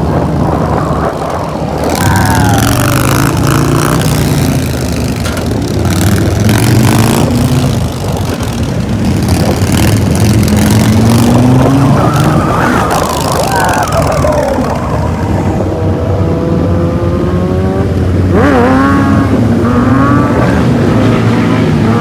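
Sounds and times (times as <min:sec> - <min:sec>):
heavy wind noise: 0:00.0 - 0:22.0
motorcycle engines revving: 0:00.0 - 0:22.0.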